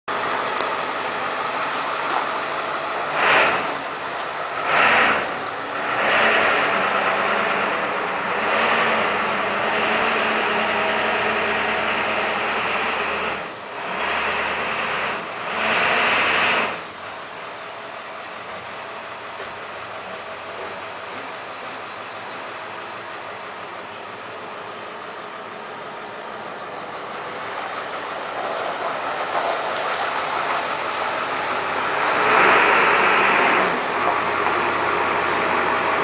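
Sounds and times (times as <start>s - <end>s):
pickup truck engine running: 0.0s - 36.0s.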